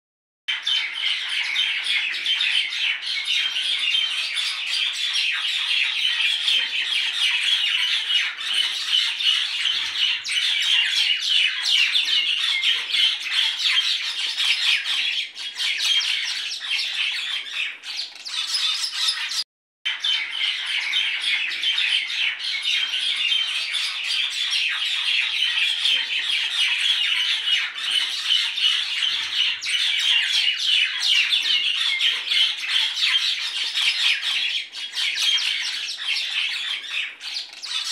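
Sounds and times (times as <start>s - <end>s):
many small birds chirping: 0.5s - 37.9s.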